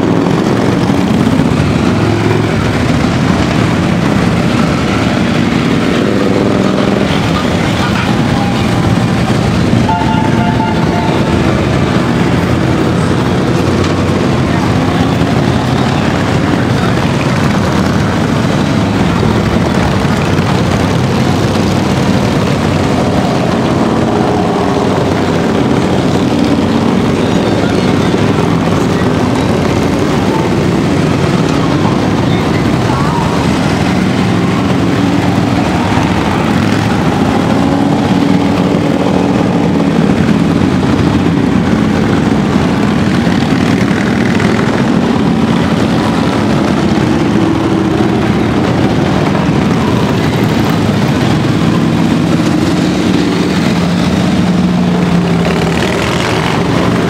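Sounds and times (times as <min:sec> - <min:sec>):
motorcycles riding past: 0:00.0 - 0:57.0.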